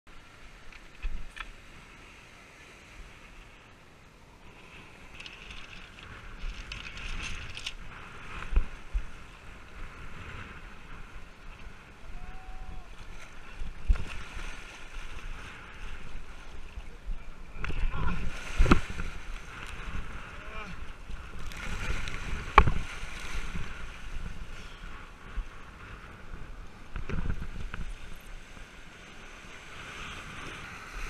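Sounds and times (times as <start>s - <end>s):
water splashing in surf: 0.1s - 31.0s
wind rushing over microphone: 4.6s - 31.0s.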